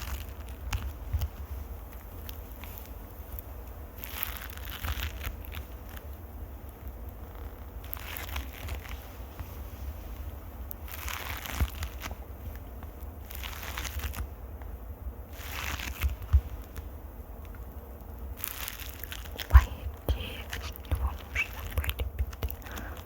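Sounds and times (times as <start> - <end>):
scratching on a microphone: 0.0 - 14.5, 15.3 - 17.0, 18.3 - 23.0.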